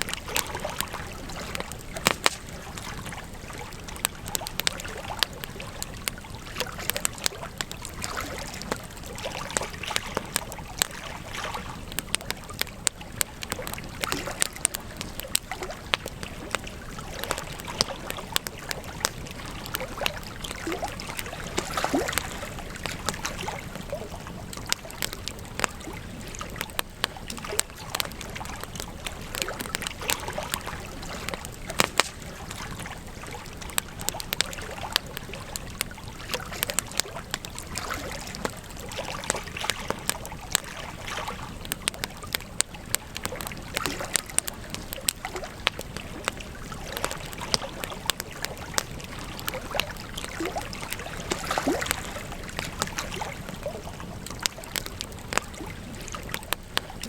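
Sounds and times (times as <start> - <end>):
burning wood popping and snapping: 0.0 - 57.0.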